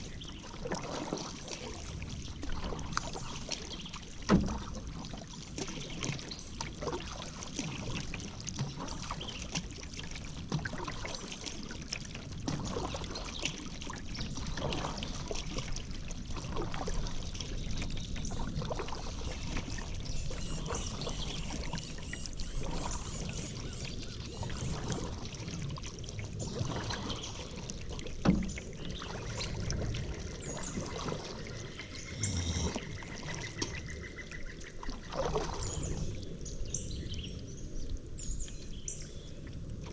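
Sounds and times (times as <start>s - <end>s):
paddle splashing in water: 0.0s - 38.1s.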